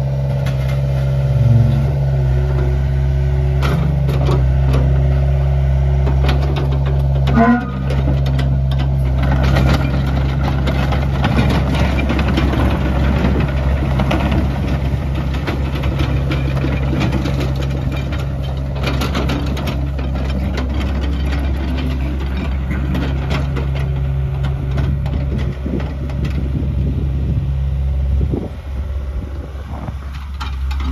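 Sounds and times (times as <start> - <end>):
excavator boom rattling and clatter: 0.0 - 2.9, 3.5 - 27.4, 28.2 - 30.9
diesel engine running: 0.0 - 30.9.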